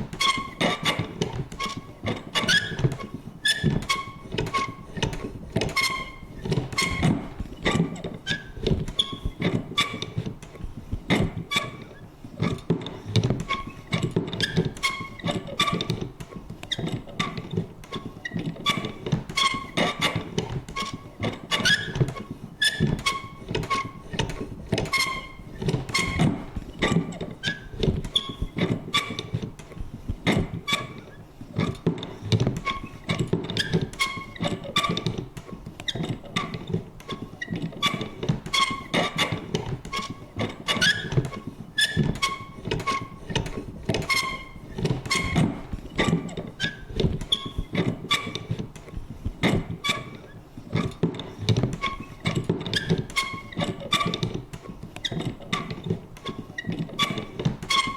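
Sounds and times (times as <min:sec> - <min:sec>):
paper punch clicking and clunking: 0:00.0 - 0:57.9
squeaky mechanism creaks: 0:00.0 - 0:57.9.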